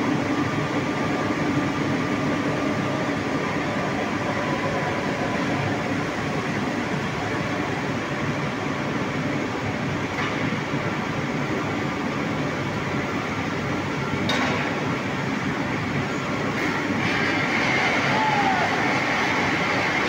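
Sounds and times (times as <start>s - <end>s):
rolling mill mechanical noise: 0.0s - 20.0s.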